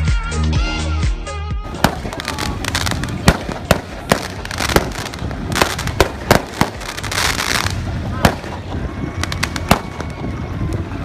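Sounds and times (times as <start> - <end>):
fireworks bangs: 1.7 - 10.9
steady background noise: 1.7 - 11.0.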